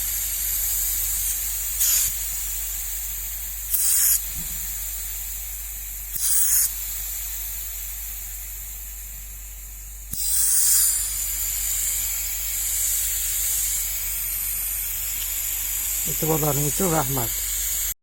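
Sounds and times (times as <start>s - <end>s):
air hissing from tubes: 0.0s - 5.2s, 6.1s - 8.1s, 10.1s - 18.0s.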